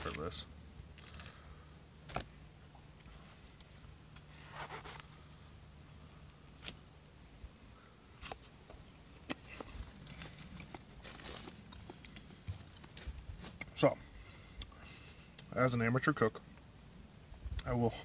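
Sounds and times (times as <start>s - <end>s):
faint high-pitched pulsing drone: 0.0s - 18.0s.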